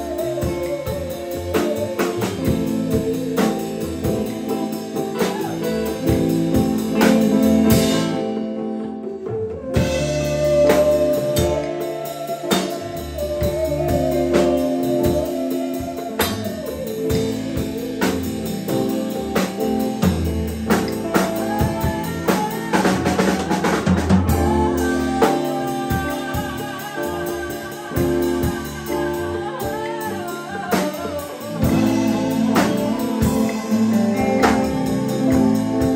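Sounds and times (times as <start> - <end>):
bass line: 0.0 - 35.9
bending lead notes: 0.0 - 35.9
drum kit: 0.0 - 35.9.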